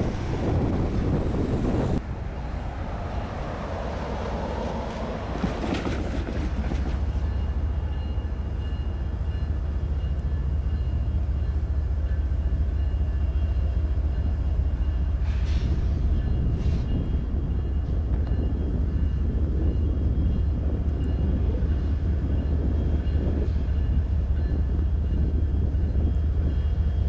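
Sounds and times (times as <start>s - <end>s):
diesel locomotive engines droning: 0.0s - 27.0s.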